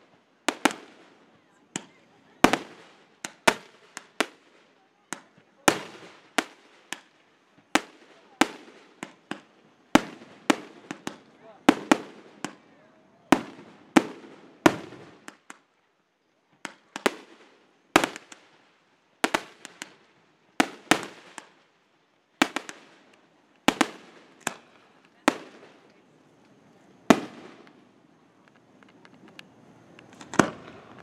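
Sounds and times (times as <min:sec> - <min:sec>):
firework shells bursting: 0:00.0 - 0:12.7, 0:13.3 - 0:15.8, 0:16.5 - 0:21.8, 0:22.4 - 0:31.0.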